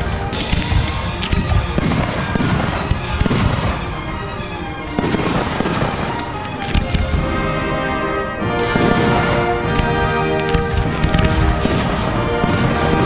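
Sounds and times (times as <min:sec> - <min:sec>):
fireworks booming and crackling: 0:00.0 - 0:13.0
music playing: 0:00.0 - 0:13.0.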